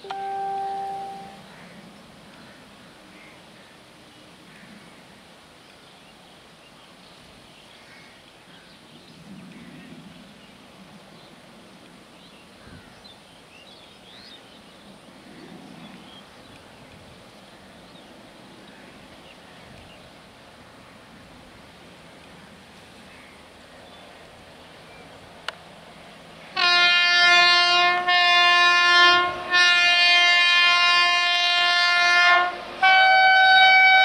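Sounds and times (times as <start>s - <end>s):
low outdoor hiss: 0.0s - 34.0s.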